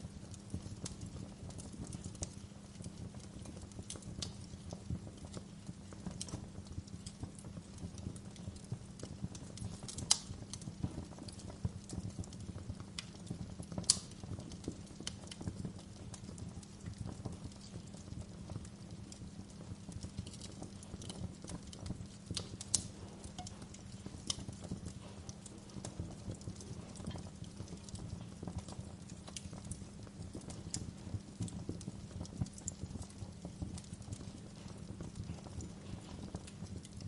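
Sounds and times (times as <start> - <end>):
fireplace fire crackling: 0.0 - 37.0.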